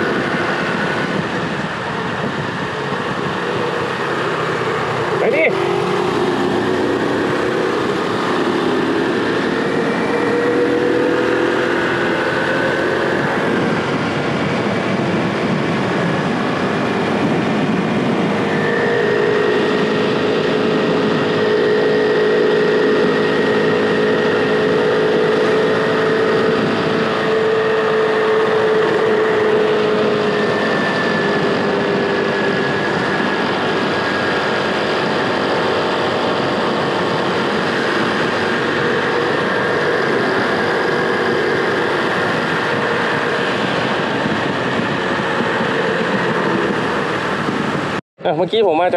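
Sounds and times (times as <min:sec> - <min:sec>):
scooter engine humming: 0:00.0 - 0:48.4
wind and road noise: 0:00.0 - 0:48.9.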